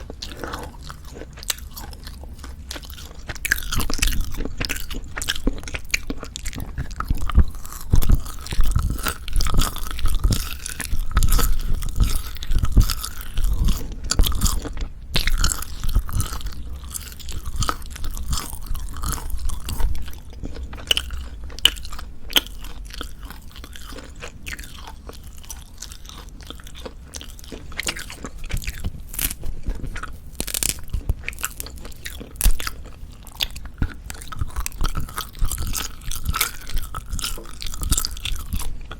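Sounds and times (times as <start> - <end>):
crunchy wet chewing: 0.0 - 38.9.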